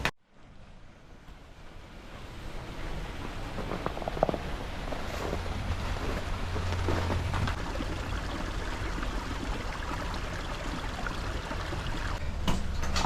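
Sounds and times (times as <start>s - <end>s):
water rushing: 0.6s - 12.2s.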